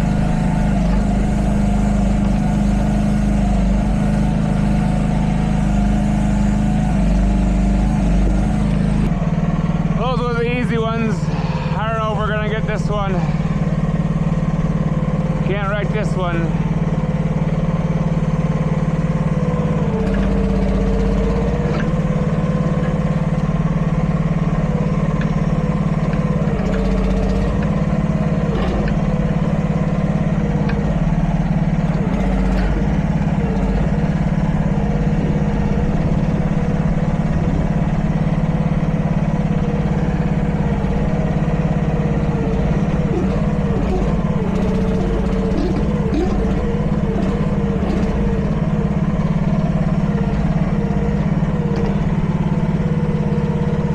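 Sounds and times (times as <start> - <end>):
hydraulic whine rising and dipping: 0.0 - 9.3, 18.2 - 53.9
mini excavator running: 0.0 - 53.9.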